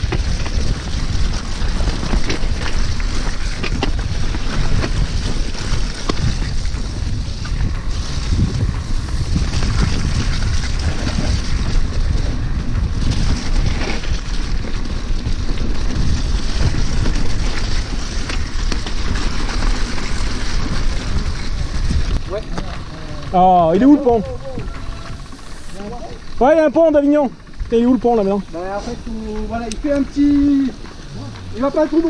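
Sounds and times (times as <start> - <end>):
bike knocking and rattling: 0.0 - 32.0
wind buffeting microphone: 0.0 - 32.0.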